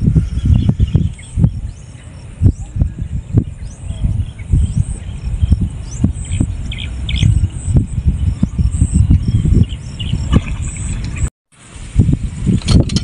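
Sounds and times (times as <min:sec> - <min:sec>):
bird chirps: 0:00.0 - 0:11.3
wind buffeting microphone: 0:00.0 - 0:13.0.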